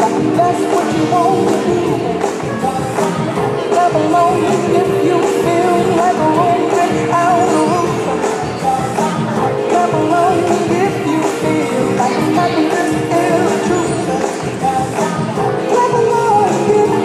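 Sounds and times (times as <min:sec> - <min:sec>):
song with vocals and band: 0:00.0 - 0:17.0.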